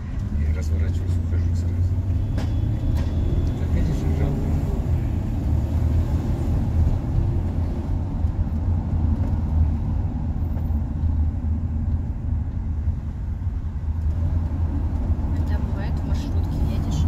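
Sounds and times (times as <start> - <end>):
engine and road noise: 0.0 - 17.0.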